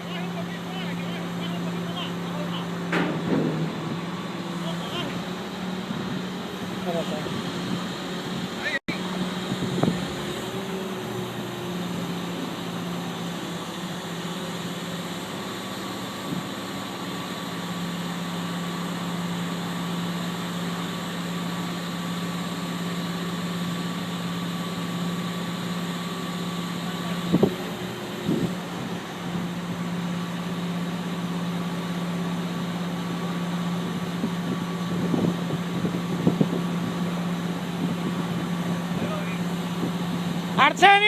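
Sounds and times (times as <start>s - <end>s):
crane engine droning: 0.0s - 41.0s.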